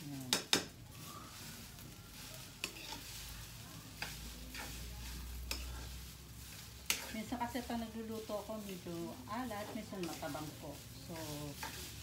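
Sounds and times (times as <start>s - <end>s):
rice sizzling in a pan: 0.0s - 12.0s
metal spatula scraping pan: 1.4s - 12.0s.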